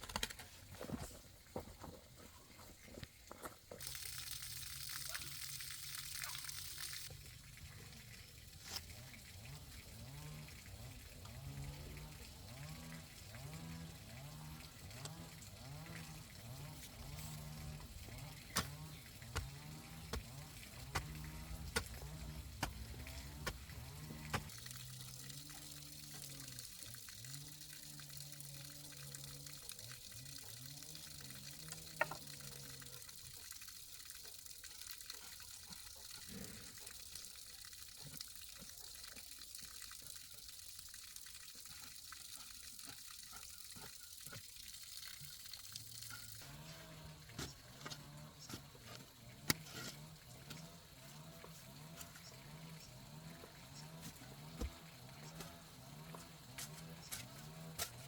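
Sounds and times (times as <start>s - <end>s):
water gurgling through pipe: 0.9s - 58.0s
hiss of flowing water: 3.8s - 58.0s.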